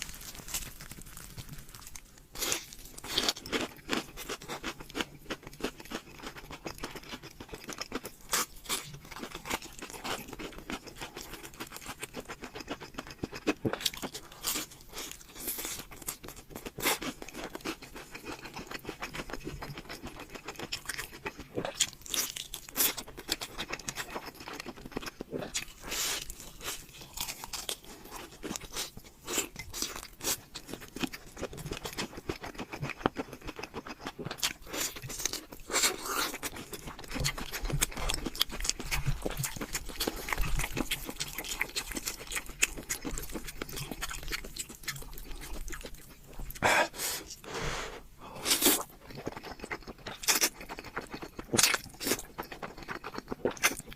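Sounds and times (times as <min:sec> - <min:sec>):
crunching fried chicken: 0:00.0 - 0:47.1, 0:48.3 - 0:53.9.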